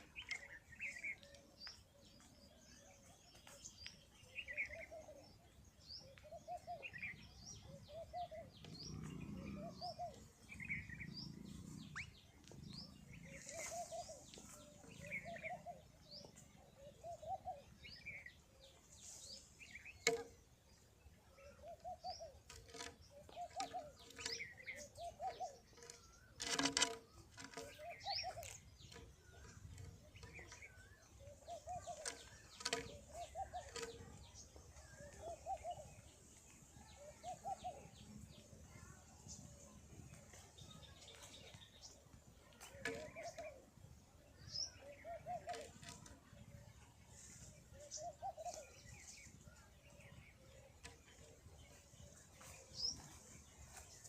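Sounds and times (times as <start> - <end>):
bird chirps and ticks: 0.0 - 54.0
birds calling: 0.0 - 54.0.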